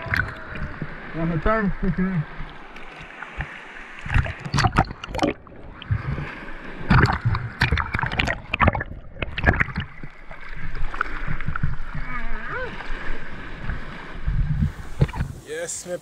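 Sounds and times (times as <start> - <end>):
water splashing and gurgling: 0.0 - 15.5.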